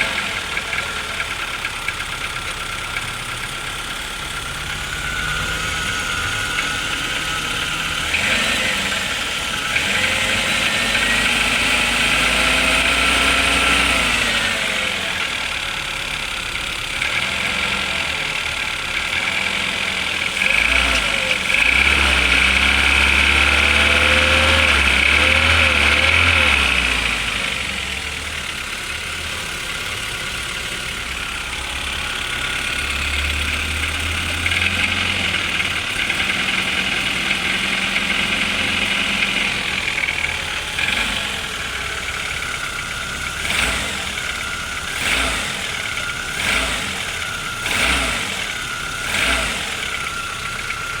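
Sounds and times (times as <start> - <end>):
cold engine knocking: 0.0 - 51.0
engine revving: 0.0 - 51.0.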